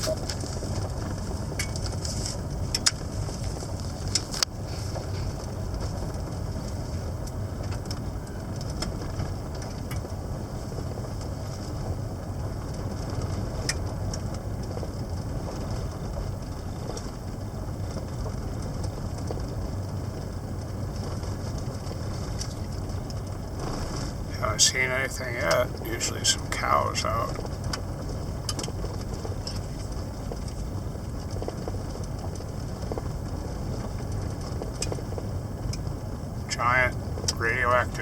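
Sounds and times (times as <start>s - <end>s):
engine and road rumble: 0.0s - 38.0s
faint ticks and rattles: 0.0s - 38.0s.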